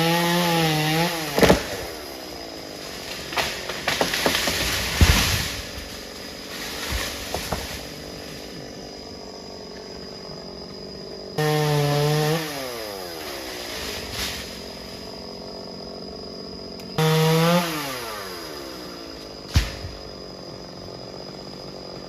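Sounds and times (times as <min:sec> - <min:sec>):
chainsaw engine revving: 0:00.0 - 0:09.7, 0:10.3 - 0:22.0.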